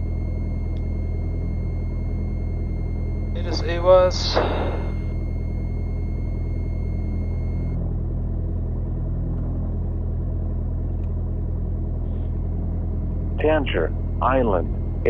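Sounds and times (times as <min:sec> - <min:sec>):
faint electronic whine: 0:00.0 - 0:15.0
propeller engine idling: 0:00.0 - 0:15.0.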